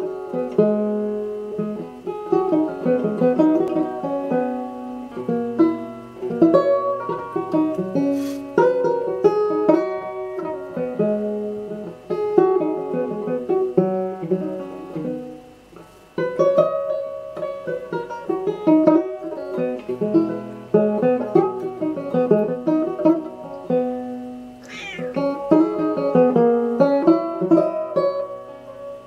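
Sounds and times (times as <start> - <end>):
banjo played solo: 0.0 - 29.0.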